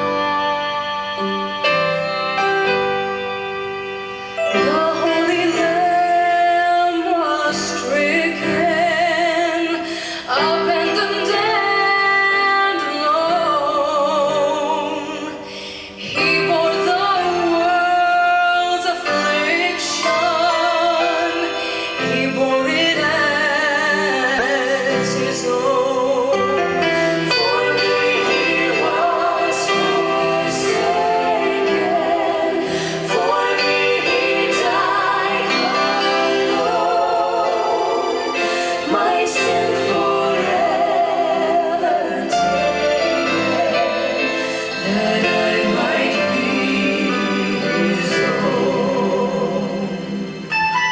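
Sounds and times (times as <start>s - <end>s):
vocal group singing: 4.5s - 50.9s.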